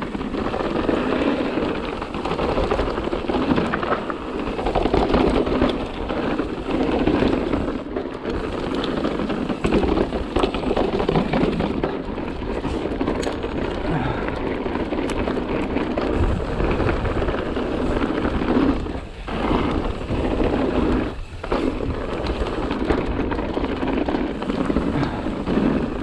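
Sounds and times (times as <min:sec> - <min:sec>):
bike knocking and clattering: 0:00.0 - 0:26.0.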